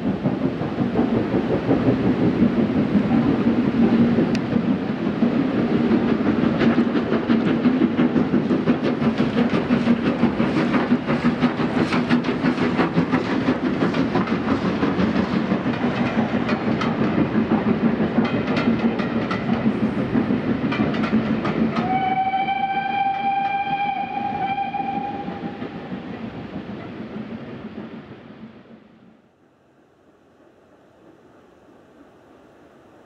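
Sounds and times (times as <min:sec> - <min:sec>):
train wheels clattering over rail joints: 0:00.0 - 0:28.1.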